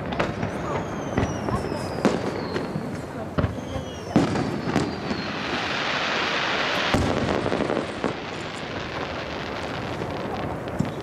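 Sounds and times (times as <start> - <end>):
hissing crackle: 0.0 - 11.0.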